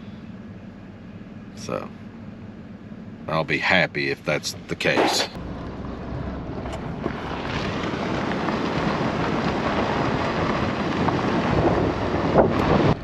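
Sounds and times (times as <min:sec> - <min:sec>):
truck driving: 0:00.0 - 0:13.0.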